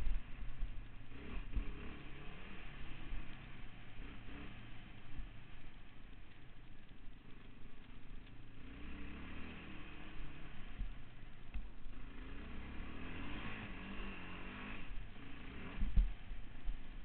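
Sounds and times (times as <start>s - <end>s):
quad bike engine revving: 0.0s - 5.4s, 7.3s - 17.0s.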